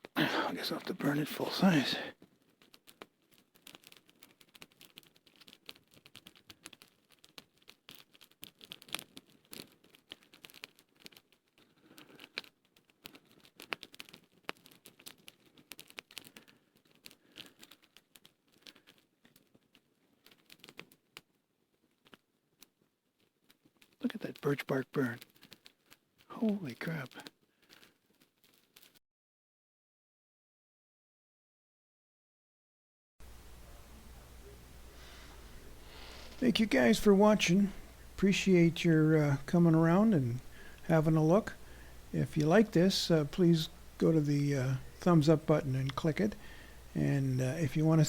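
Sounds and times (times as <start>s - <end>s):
campfire crackling and popping: 0.0s - 29.0s, 33.2s - 48.0s.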